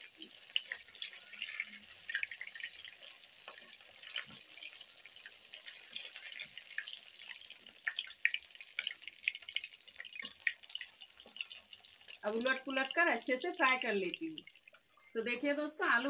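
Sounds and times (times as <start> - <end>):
potatoes sizzling in hot oil: 0.0 - 16.0.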